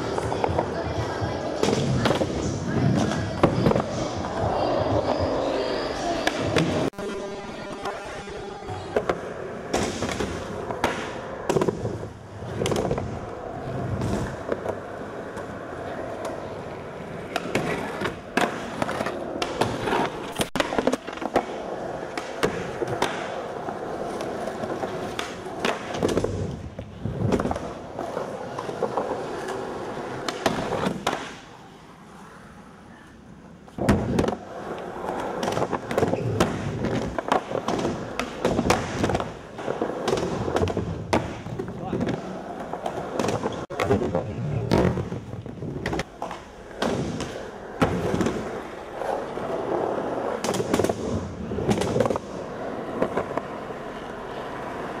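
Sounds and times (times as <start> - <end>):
skateboards clacking: 0.0 - 31.8, 33.0 - 55.0
skateboards rolling on concrete: 0.0 - 55.0.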